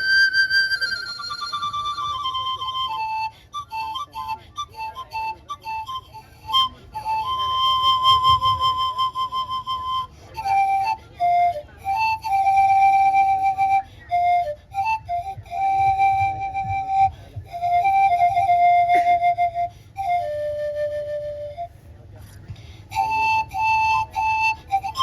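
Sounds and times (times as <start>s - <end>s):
bamboo panpipe melody: 0.0s - 25.0s.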